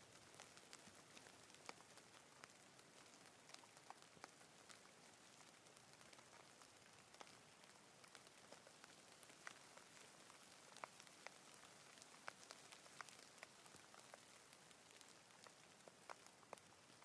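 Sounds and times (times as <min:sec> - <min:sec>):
light rain hiss: 0:00.0 - 0:17.0
raindrops ticking: 0:00.0 - 0:17.0.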